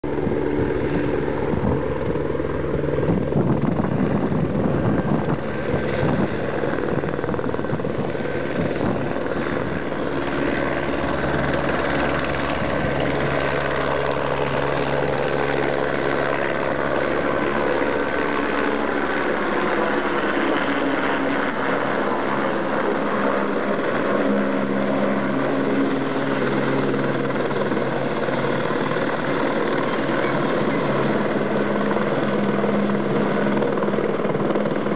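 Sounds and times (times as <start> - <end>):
deep helicopter rotor throb: 0.0 - 34.9
helicopter turbine whine: 0.0 - 34.9.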